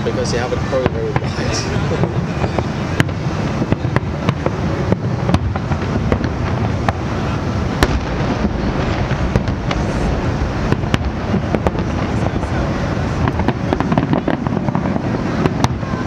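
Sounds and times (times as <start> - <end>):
low rumble of explosions: 0.0 - 16.0
firework shells bursting: 0.8 - 16.0.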